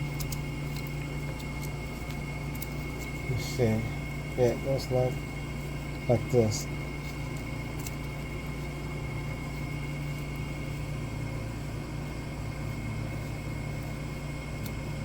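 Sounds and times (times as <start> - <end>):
mechanical hum with drone: 0.0 - 15.0.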